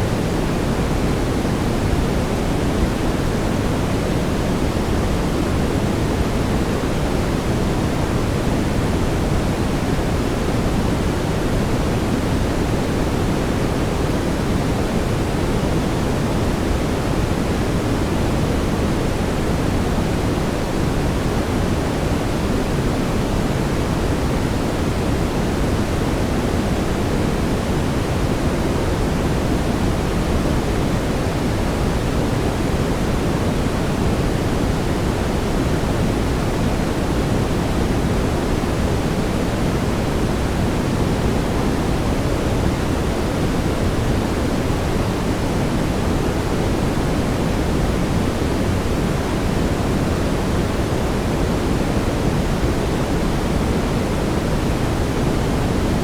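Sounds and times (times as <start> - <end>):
deep brown noise hiss: 0.0 - 56.0.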